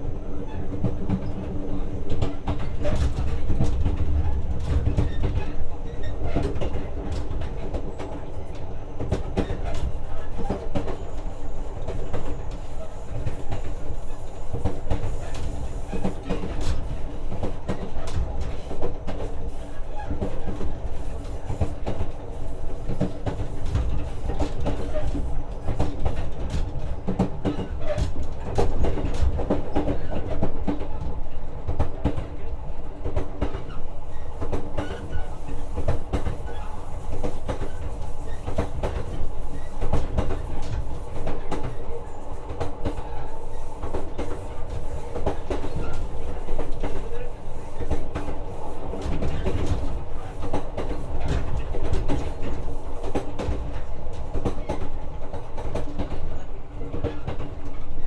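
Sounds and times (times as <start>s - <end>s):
train interior rumble and hum: 0.0s - 58.0s.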